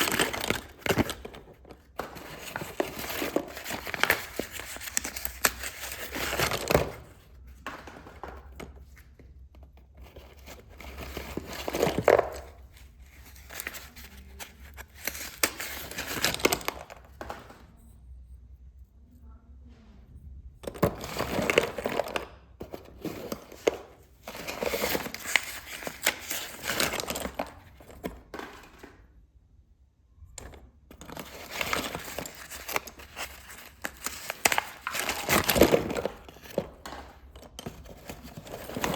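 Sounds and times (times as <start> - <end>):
paper and plastic crinkling: 0.0 - 18.0, 20.6 - 29.1, 30.4 - 38.9.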